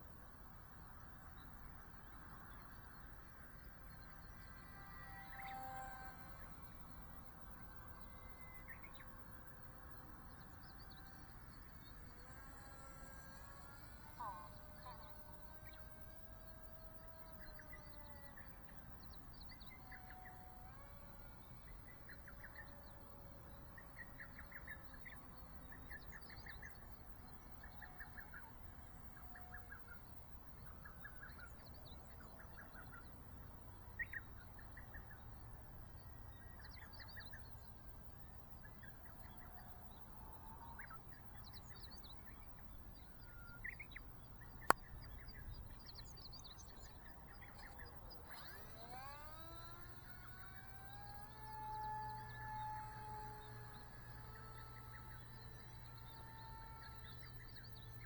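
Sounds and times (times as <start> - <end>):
faint birdsong chirps: 0.0 - 58.0.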